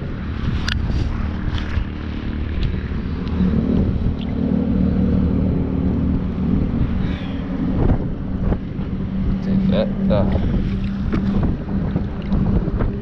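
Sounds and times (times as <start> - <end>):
motor droning: 0.0 - 13.0.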